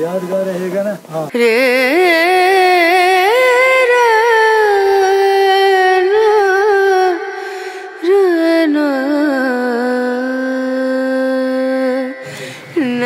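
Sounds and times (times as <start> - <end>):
solo voice singing with vibrato: 1.3 - 13.0.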